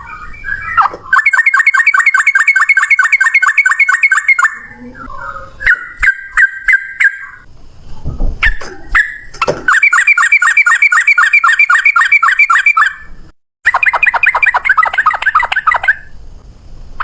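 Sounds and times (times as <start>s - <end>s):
bird singing with rapid trill: 0.0s - 7.5s, 8.4s - 16.2s.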